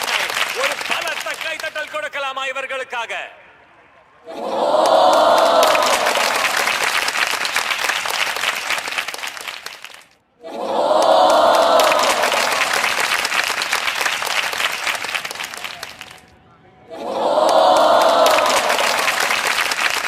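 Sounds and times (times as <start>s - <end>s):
crowd clapping: 0.0s - 2.2s, 4.4s - 16.4s, 17.0s - 20.0s
crowd cheering: 0.0s - 20.0s.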